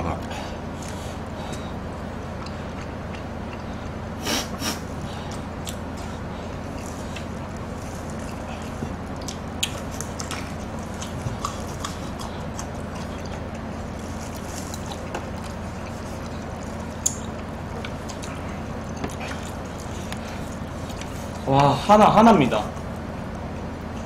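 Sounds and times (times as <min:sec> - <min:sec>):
people chewing food: 0:00.0 - 0:24.0
steady low hum: 0:00.0 - 0:24.0.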